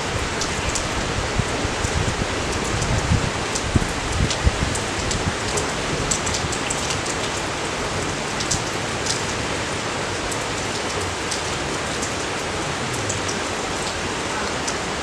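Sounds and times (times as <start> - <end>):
steady rain hiss: 0.0 - 15.0
rain drop ticks: 0.2 - 14.8.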